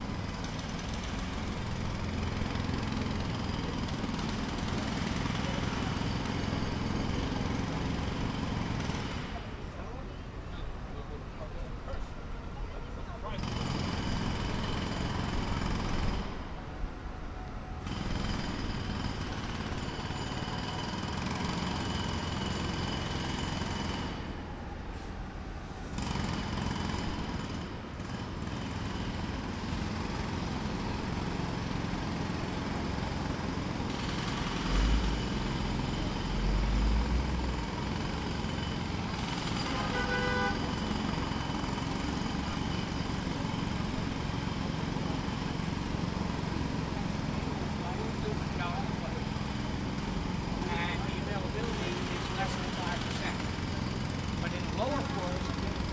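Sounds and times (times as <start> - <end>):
distant jackhammer hammering: 0.0 - 9.7, 13.3 - 16.7, 17.8 - 24.8, 25.9 - 55.9
street traffic noise: 0.0 - 55.9.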